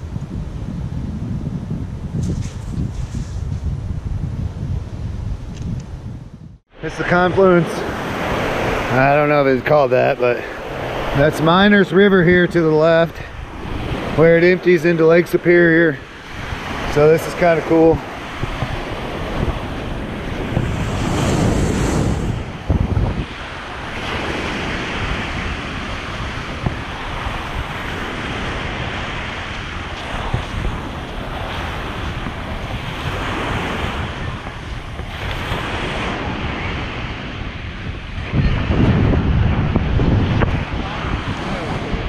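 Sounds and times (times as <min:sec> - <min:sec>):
wind buffeting microphone: 0:00.0 - 0:42.0
small waves breaking on sand: 0:06.7 - 0:42.0.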